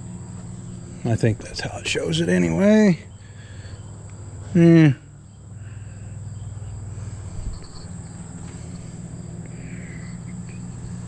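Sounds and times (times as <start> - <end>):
crickets trilling: 0.0 - 11.0
low hum: 0.0 - 11.0.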